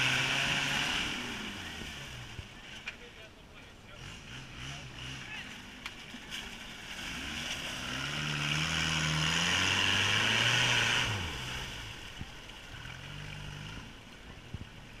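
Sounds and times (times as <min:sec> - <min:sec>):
engine pulling hard: 0:00.0 - 0:15.0.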